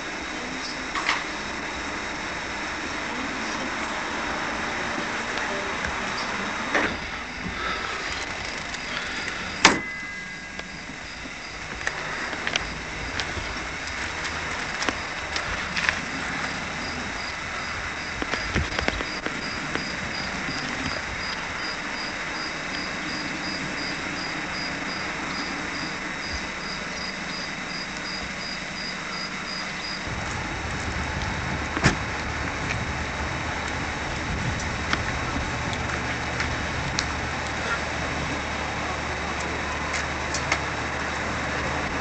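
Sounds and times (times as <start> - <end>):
insect chirping: 0.0 - 40.2
low rumble: 0.0 - 42.0
outdoor hiss: 0.0 - 42.0.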